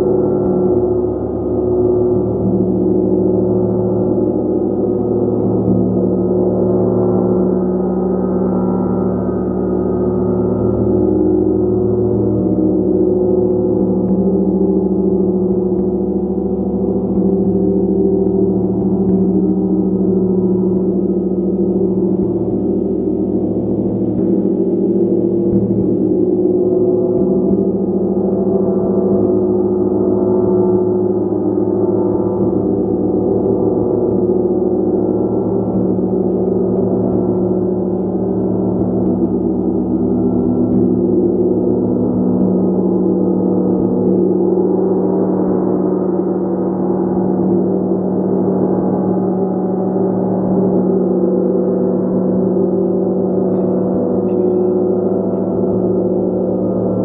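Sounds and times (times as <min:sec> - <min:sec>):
large gong shimmering: 0:00.0 - 0:57.0.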